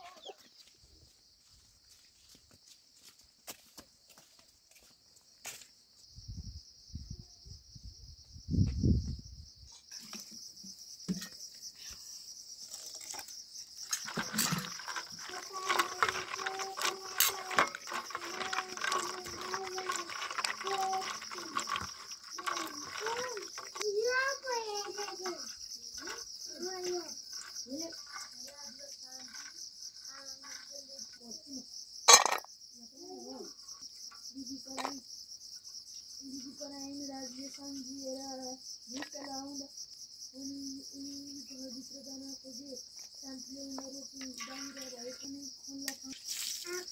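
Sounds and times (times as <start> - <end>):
insect chirring: 5.5 - 46.9.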